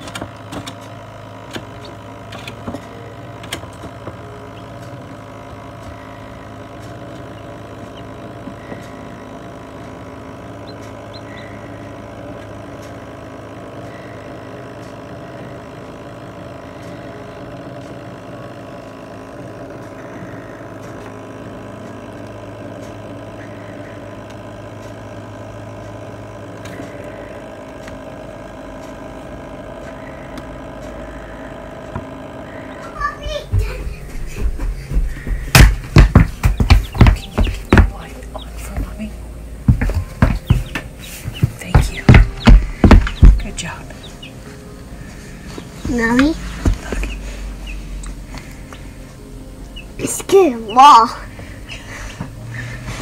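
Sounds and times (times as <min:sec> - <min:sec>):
computer fan humming: 0:00.0 - 0:53.0.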